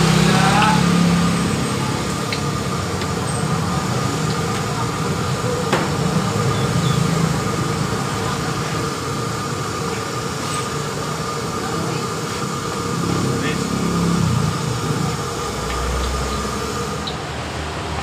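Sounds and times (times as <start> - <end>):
gas burner roaring: 0.0 - 18.0.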